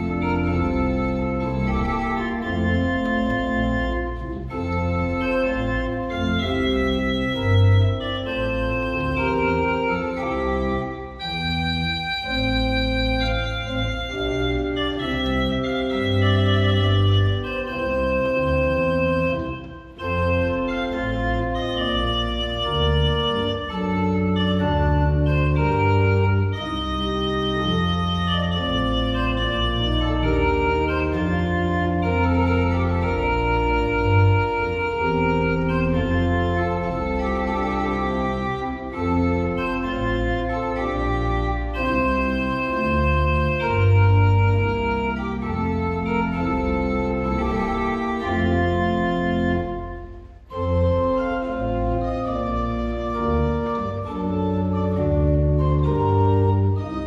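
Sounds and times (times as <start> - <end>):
church organ playing: 0.0 - 57.0.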